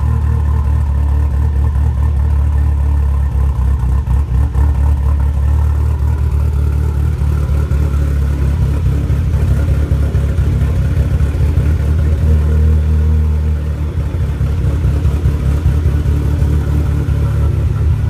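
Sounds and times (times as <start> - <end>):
car engine rough idle: 0.0 - 18.0.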